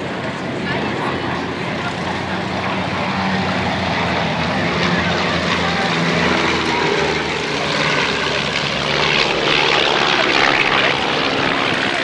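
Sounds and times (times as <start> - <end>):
propeller airplane engine: 0.0 - 12.0.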